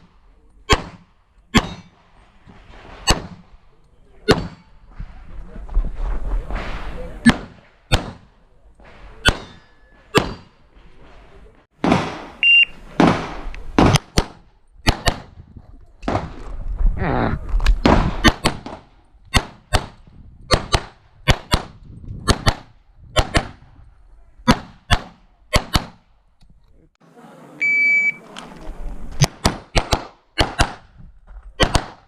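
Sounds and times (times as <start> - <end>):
background noise: 0.0 - 32.0.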